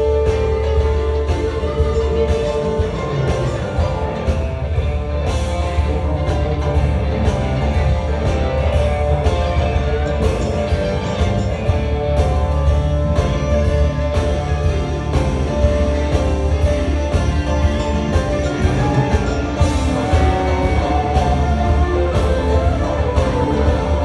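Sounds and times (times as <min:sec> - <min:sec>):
blues-rock band playing live: 0:00.0 - 0:24.0.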